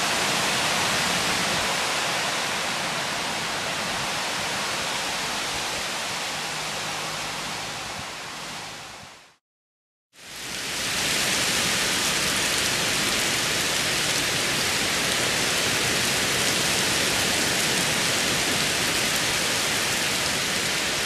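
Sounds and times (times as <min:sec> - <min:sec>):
heavy rain: 0:00.0 - 0:09.4, 0:10.2 - 0:21.0.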